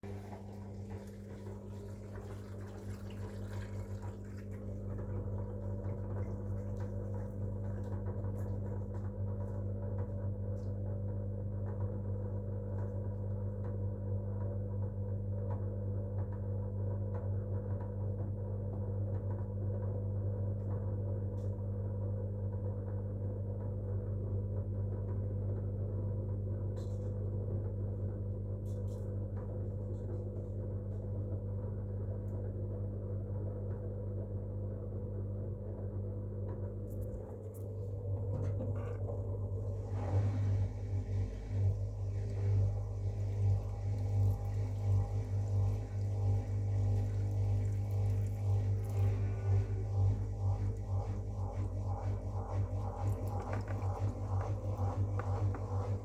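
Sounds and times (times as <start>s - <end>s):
washing machine drain pump humming: 0.0s - 56.0s.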